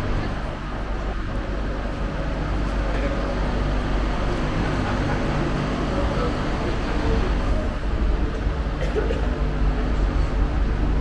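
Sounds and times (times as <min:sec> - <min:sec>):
low hum: 0:00.0 - 0:11.0
passengers' voices murmuring: 0:00.0 - 0:11.0.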